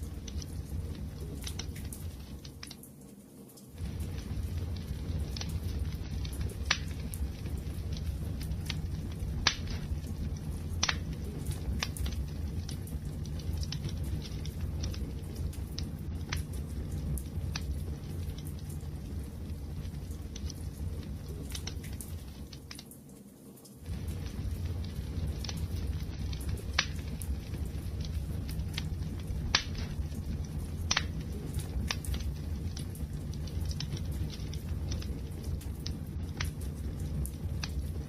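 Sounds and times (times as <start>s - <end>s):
burning wood crackling and popping: 0.0s - 23.2s, 23.8s - 38.0s
low rumble of flames: 0.0s - 23.2s, 23.8s - 38.0s.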